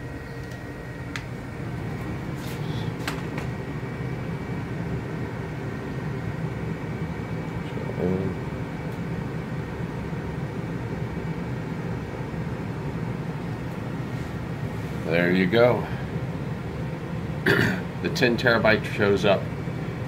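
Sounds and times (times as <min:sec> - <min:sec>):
server cooling fans whirring: 0:00.0 - 0:20.0.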